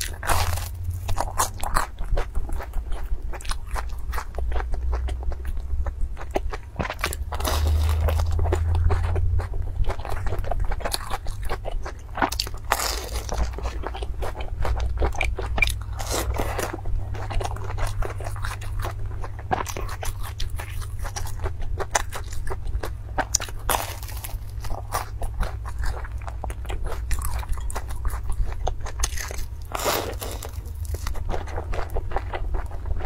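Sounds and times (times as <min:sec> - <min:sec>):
chewing crunchy fried dough: 0:00.0 - 0:33.0.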